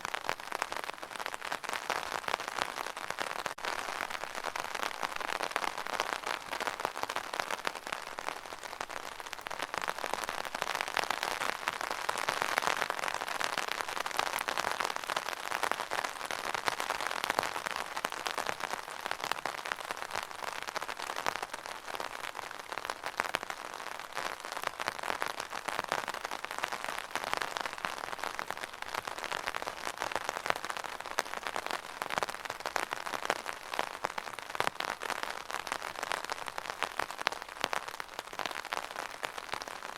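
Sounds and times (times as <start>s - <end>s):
rain drumming on an umbrella: 0.0s - 39.9s.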